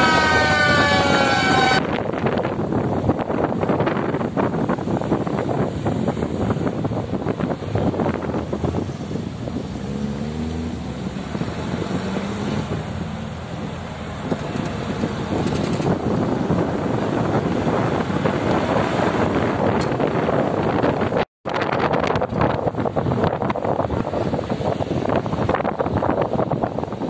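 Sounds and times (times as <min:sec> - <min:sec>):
road noise: 0:00.0 - 0:27.0
vehicle engine: 0:00.0 - 0:27.0
wind buffeting microphone: 0:00.0 - 0:27.0.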